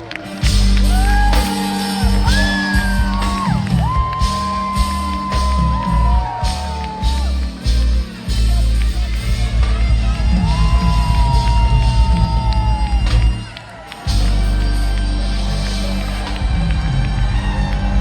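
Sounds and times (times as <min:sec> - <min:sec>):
crowd whooping and shouting: 0:00.0 - 0:18.0
heavy pulsing bass line: 0:00.0 - 0:18.0
live reggae band playing: 0:00.0 - 0:18.0.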